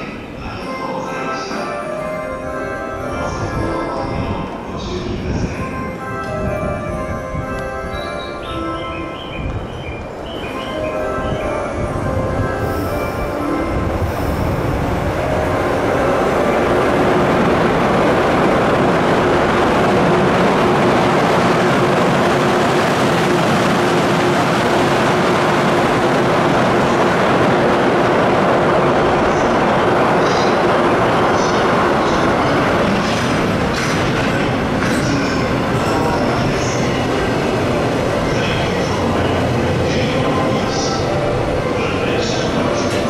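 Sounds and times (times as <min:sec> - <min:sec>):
freight train wheels rumbling on rail: 0:02.8 - 0:43.0.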